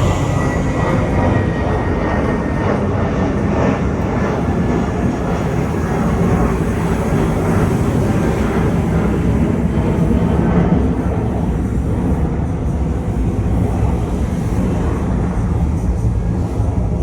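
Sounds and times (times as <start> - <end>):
jet engines passing: 0.0 - 17.0.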